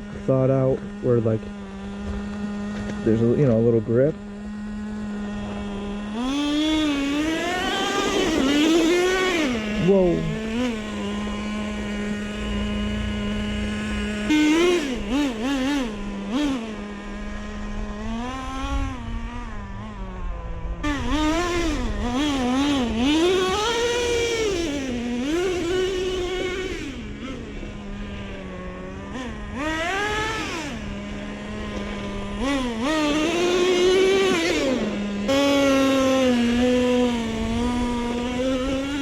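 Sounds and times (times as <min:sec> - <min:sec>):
small nitro engine revving: 0:00.0 - 0:39.0.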